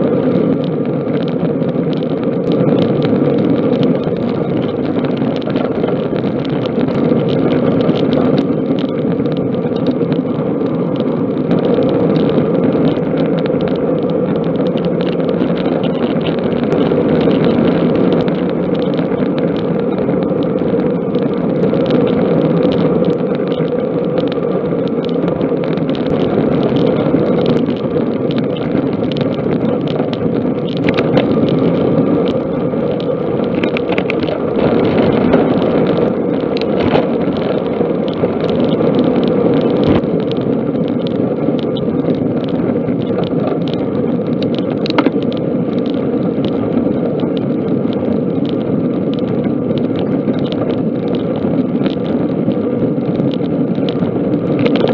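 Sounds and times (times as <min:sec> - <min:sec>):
bicycle tyre noise: 0:00.0 - 0:54.9
small clicks and rattles: 0:00.0 - 0:54.9.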